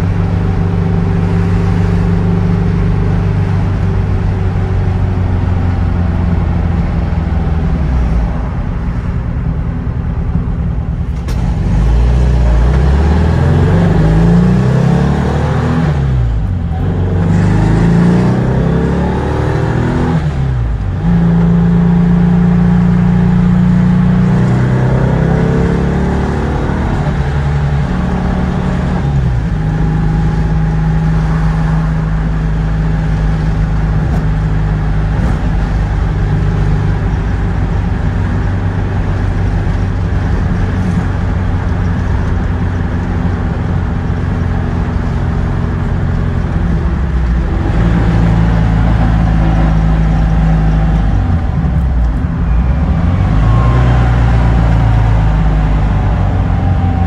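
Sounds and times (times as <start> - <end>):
car engine accelerating in cabin: 0.0 - 57.0.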